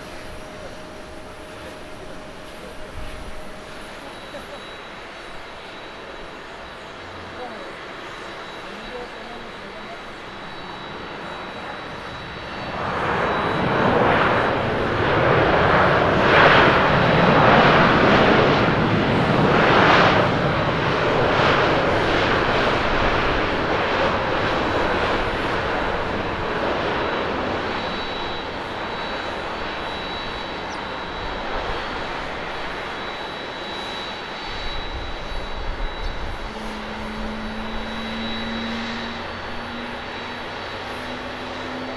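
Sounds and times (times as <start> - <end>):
jet engines roaring: 0.0 - 41.9.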